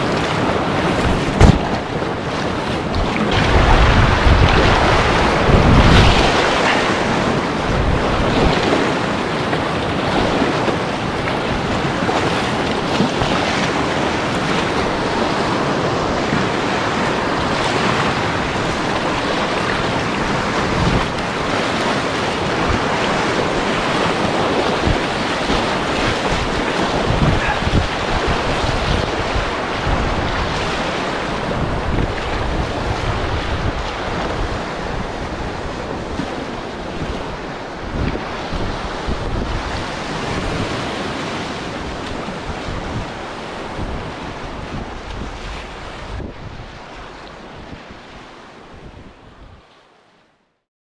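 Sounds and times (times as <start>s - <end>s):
river rapids roaring: 0.0s - 46.2s
wind buffeting microphone: 0.0s - 49.7s.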